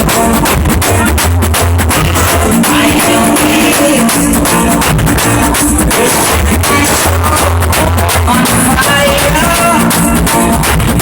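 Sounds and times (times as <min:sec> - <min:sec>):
loud reggae music with singing: 0:00.0 - 0:11.0.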